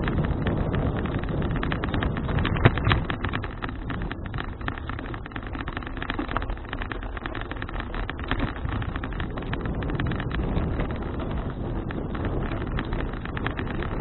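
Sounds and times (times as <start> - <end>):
continuous crackling rattle: 0.0 - 14.0
road noise: 0.0 - 14.0
wind rushing over microphone: 0.0 - 14.0.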